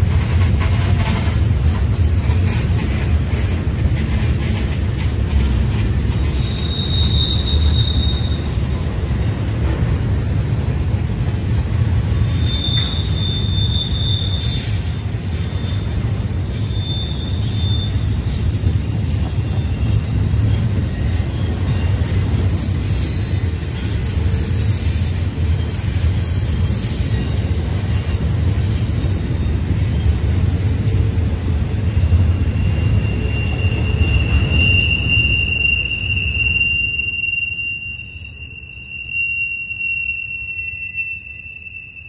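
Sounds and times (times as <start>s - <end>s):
freight train wheels rumbling: 0.0s - 42.0s
wheel flange squeal: 4.6s - 9.6s, 11.4s - 30.2s, 32.0s - 42.0s.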